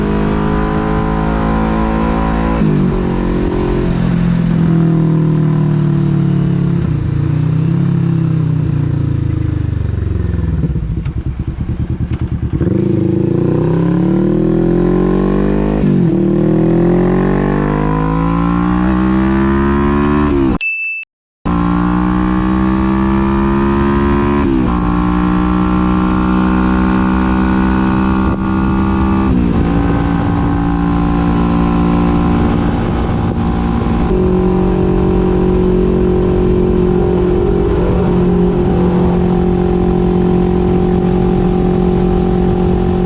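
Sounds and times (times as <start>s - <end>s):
motorcycle engine revving: 0.0s - 20.6s, 21.5s - 43.0s.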